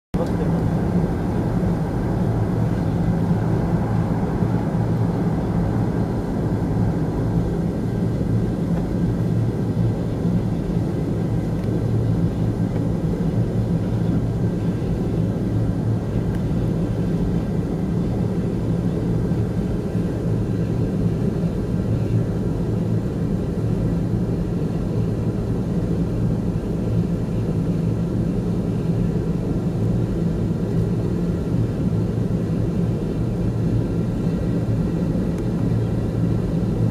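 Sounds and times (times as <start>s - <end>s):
jet engines droning in cabin: 0.2s - 36.9s.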